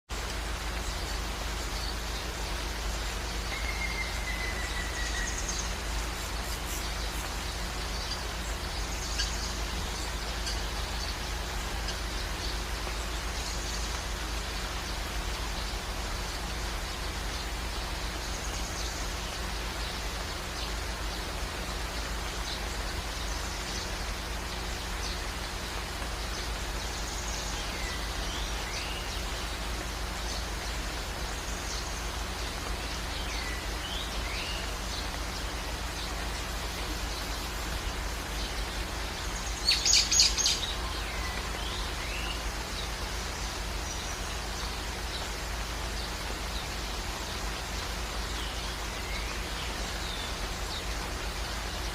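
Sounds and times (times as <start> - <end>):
songbirds chirping: 0.1 - 51.9
steady rain: 0.1 - 51.9.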